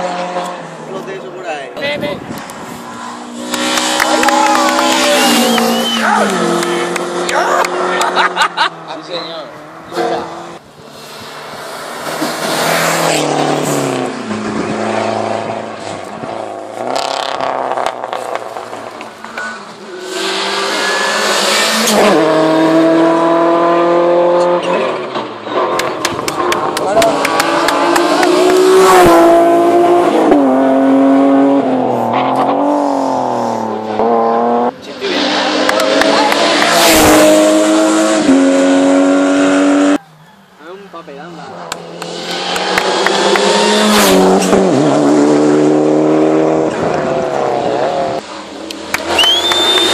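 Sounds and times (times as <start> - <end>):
race car engine at high revs: 0.0 - 1.2, 1.8 - 40.0, 41.4 - 49.9.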